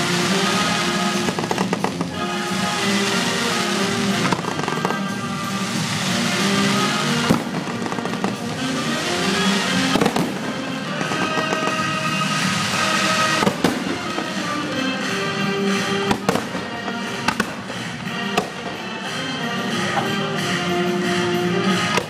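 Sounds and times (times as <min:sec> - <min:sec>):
fireworks bangs: 0:00.0 - 0:22.0
fireworks crackling and hissing: 0:00.0 - 0:22.0
loud music: 0:00.0 - 0:22.0.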